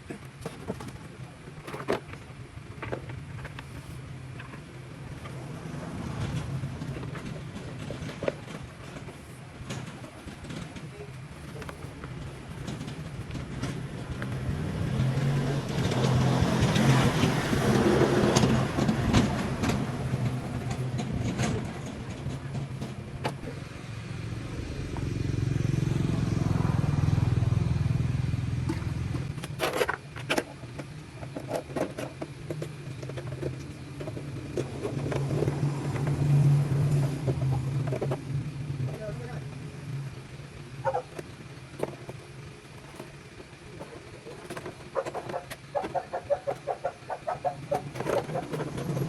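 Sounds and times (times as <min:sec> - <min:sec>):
vehicle engine humming: 0:00.0 - 0:49.0.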